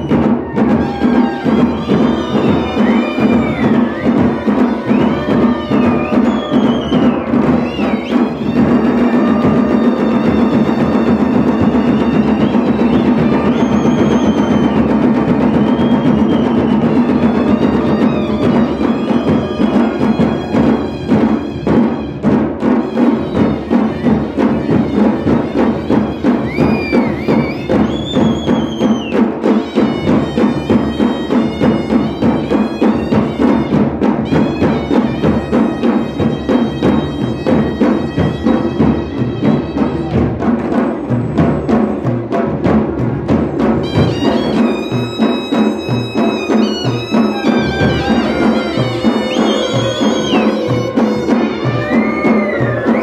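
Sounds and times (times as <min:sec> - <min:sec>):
wailing wind instrument melody: 0:00.0 - 0:42.1, 0:43.7 - 0:53.0
dhol drums beating: 0:00.0 - 0:53.0.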